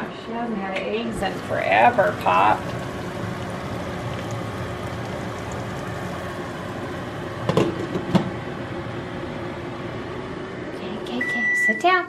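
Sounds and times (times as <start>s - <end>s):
kitchen appliance humming: 1.1s - 11.3s.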